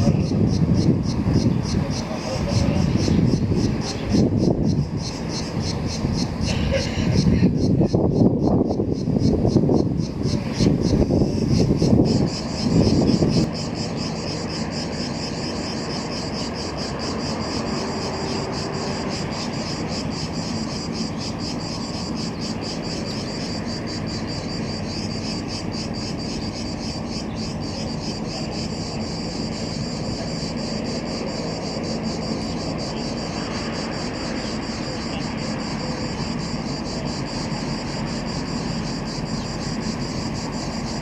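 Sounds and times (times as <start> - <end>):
cicadas buzzing: 0.0 - 41.0
steady low hum: 0.0 - 41.0.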